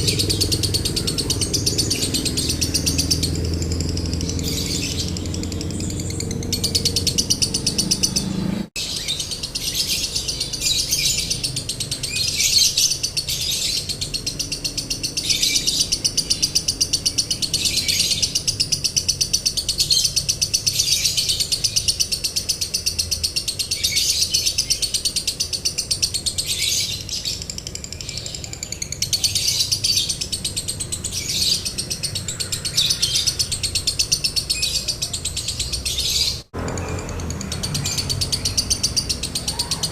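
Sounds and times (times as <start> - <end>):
bird chattering in rapid trills: 0.0 - 39.9.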